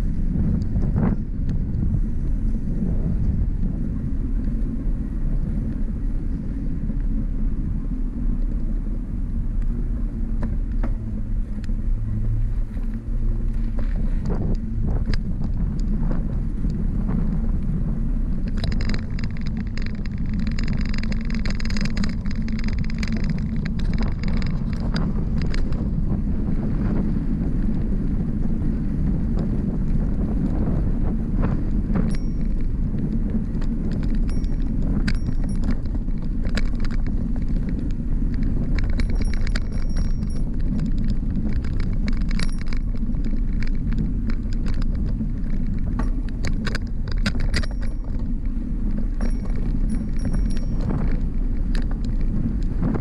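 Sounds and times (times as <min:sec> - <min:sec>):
high steady whine: 0:00.0 - 0:53.0
road noise: 0:00.0 - 0:53.0
wind rumbling on microphone: 0:00.0 - 0:53.0.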